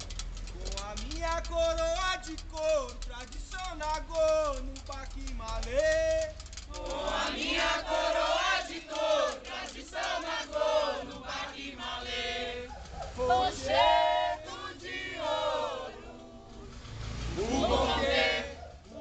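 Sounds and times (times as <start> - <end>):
group chanting and singing: 2.6 - 19.0.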